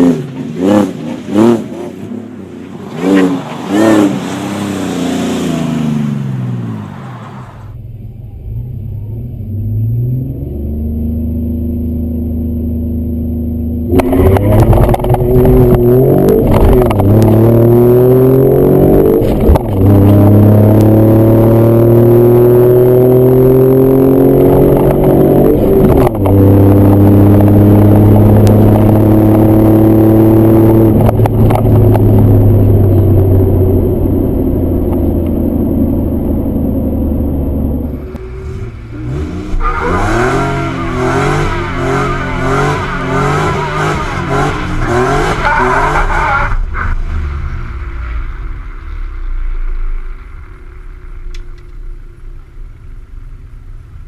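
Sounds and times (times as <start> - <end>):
supercharged car engine revving: 0.0 - 47.8.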